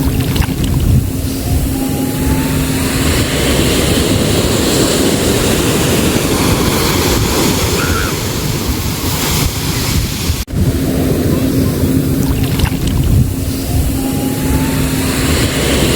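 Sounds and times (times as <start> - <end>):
sea waves breaking: 0.0 - 15.9
wind on microphone: 0.0 - 15.9.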